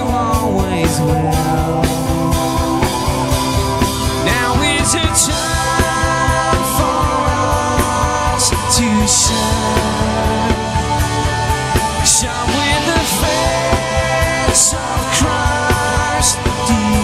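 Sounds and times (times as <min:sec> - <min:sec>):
man singing: 0:00.0 - 0:03.0, 0:04.2 - 0:11.2, 0:11.8 - 0:17.0
drums: 0:00.0 - 0:17.0
guitars: 0:00.0 - 0:17.0.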